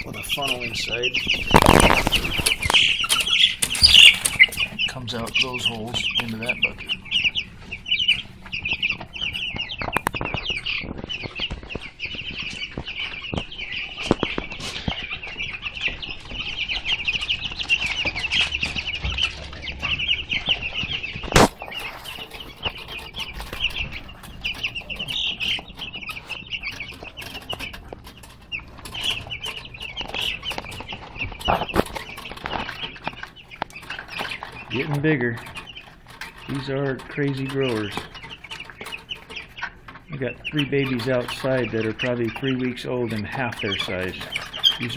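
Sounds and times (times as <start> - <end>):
chicks pecking and scrambling: 0.0 - 44.9
chicks peeping: 0.0 - 44.9.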